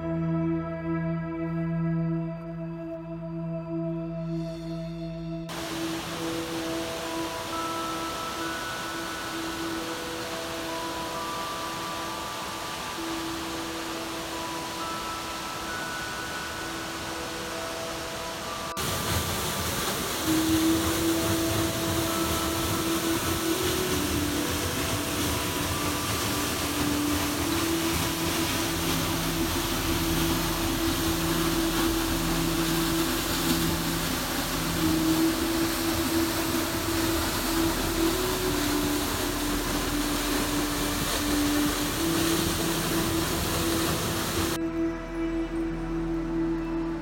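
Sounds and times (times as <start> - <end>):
slow music of held notes: 0.0 - 47.0
waterfall rushing: 5.5 - 44.6.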